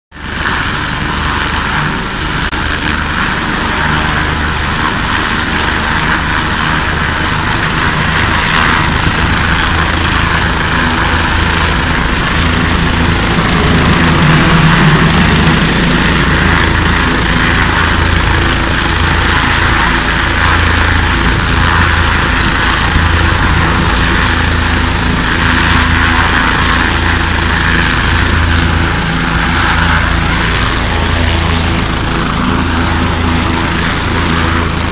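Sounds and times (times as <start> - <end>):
helicopter turbine whine: 0.1 - 34.9
rotor blades beating: 0.2 - 34.9.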